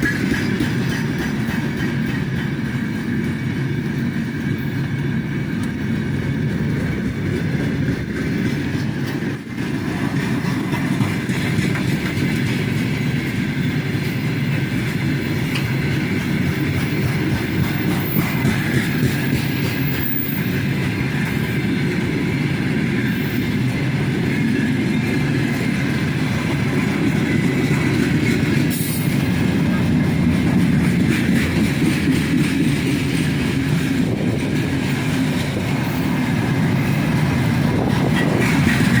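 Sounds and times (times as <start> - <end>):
wheels clicking over rails: 0.0 - 4.9, 5.5 - 39.0
train wheels rumbling on rails: 0.0 - 39.0.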